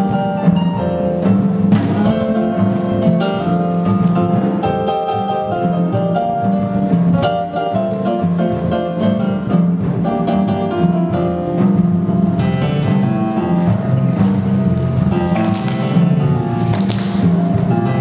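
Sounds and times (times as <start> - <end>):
instrumental strings and piano music: 0.0 - 18.0.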